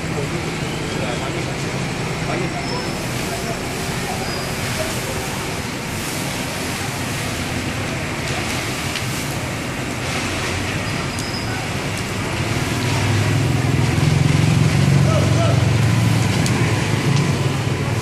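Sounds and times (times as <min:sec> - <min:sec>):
flames burning: 0:00.0 - 0:18.0.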